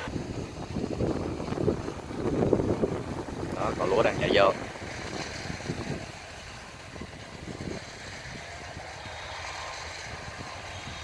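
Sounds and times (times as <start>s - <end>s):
combine harvester engine rumbling: 0.0s - 11.0s.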